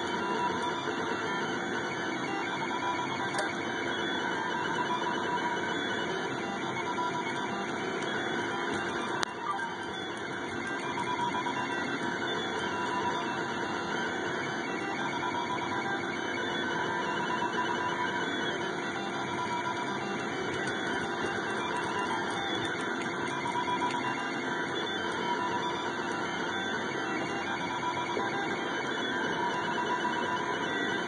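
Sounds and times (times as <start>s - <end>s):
stepper motors whining: 0.0s - 31.0s.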